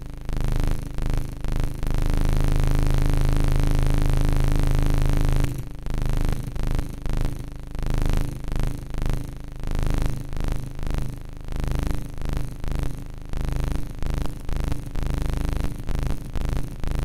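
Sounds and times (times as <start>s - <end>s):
buzzing synth drone: 0.0s - 17.0s.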